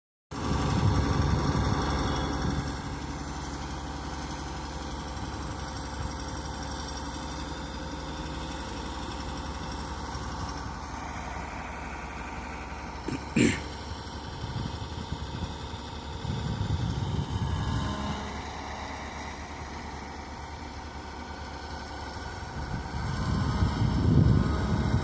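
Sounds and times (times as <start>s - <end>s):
machine engine running: 0.3s - 25.0s.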